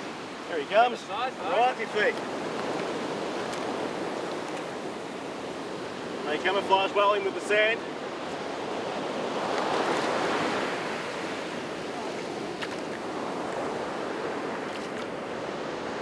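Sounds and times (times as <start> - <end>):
ocean surf breaking: 0.0 - 16.0
wash running over sand: 0.0 - 16.0.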